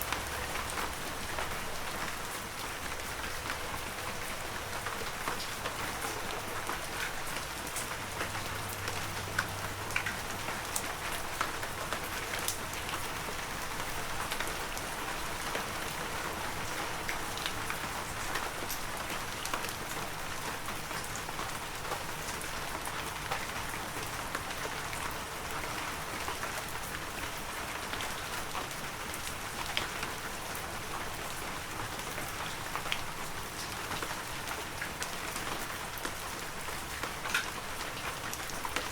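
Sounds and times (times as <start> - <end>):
heavy rain falling: 0.0 - 38.9
raindrops ticking on surfaces: 0.0 - 38.9.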